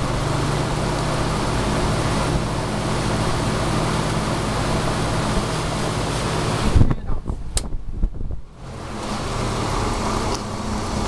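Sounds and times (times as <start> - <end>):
box fan running: 0.0 - 11.0.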